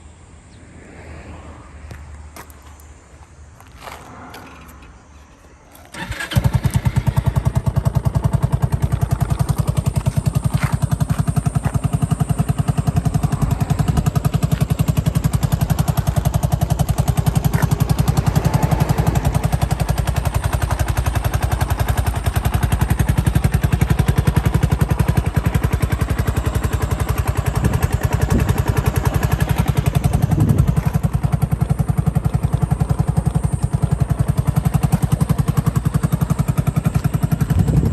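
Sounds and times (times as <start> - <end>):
scooter engine starting and idling: 3.8 - 37.9.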